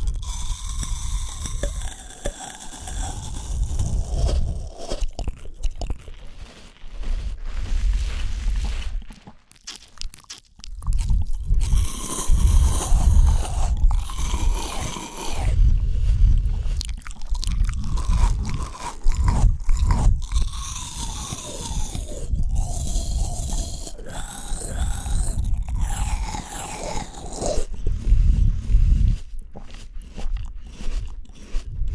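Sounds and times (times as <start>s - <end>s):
biting and chewing fruit: 0.0s - 31.9s.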